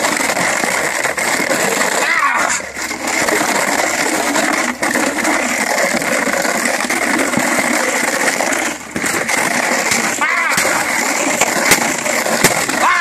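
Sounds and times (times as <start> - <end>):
plastic bottles clattering: 0.0 - 13.0.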